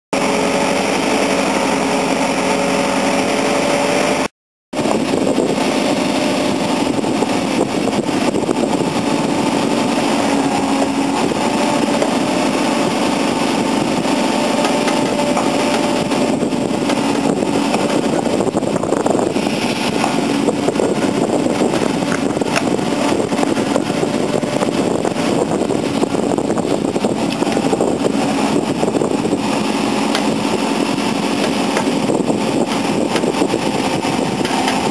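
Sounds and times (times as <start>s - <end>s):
heavy diesel engines under load: 0.1s - 34.9s.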